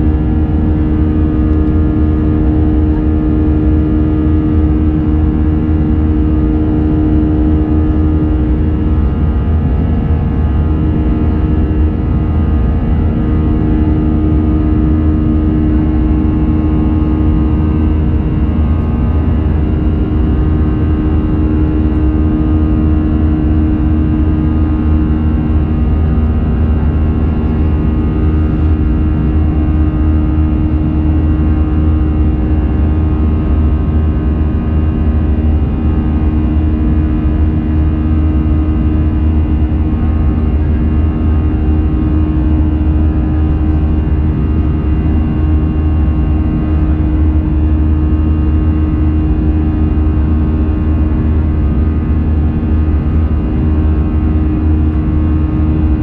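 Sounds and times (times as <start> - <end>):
constant humming tones: 0.0 - 56.0
jet engine and airflow rumble: 0.0 - 56.0.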